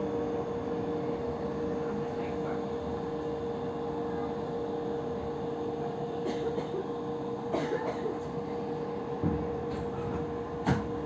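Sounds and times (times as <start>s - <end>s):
train running hum: 0.0s - 11.0s.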